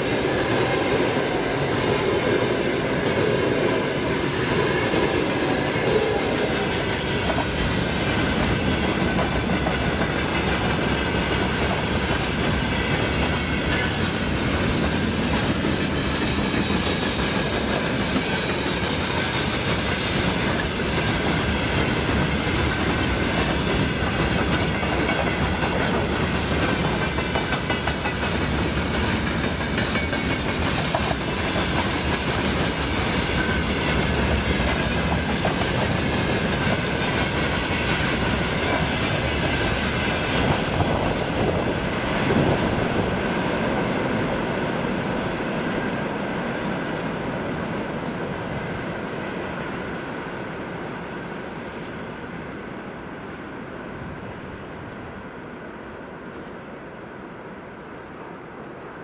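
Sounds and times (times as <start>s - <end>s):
train wheels rumbling on rails: 0.0s - 56.7s.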